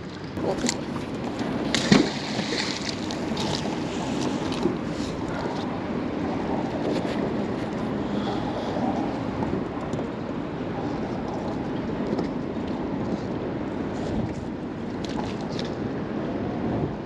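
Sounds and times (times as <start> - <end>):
water sloshing around boat: 0.0 - 17.0
wind buffeting microphone: 0.0 - 17.0.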